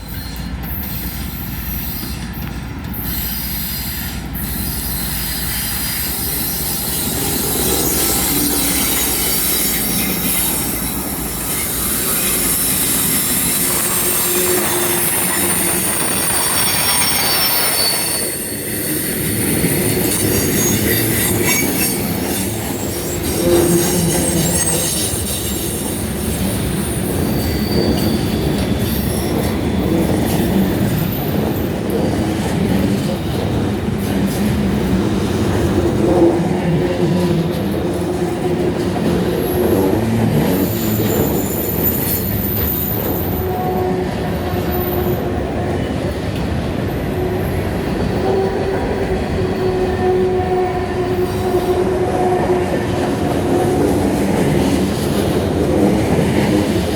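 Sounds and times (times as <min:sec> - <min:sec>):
train wheels squealing: 0:00.0 - 0:34.4, 0:36.6 - 0:56.9
train rumble and wheel clatter: 0:00.0 - 0:56.9.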